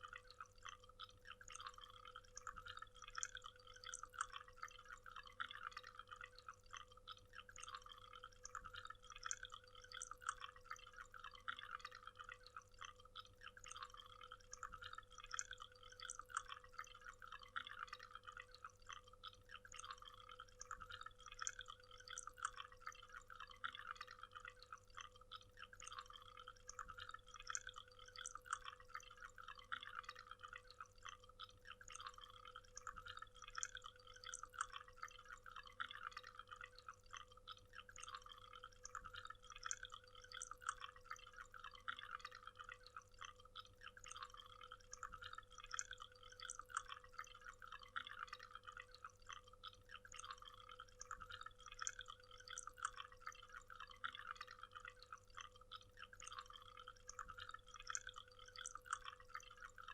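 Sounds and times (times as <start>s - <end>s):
thin steady hum: 0.0s - 59.9s.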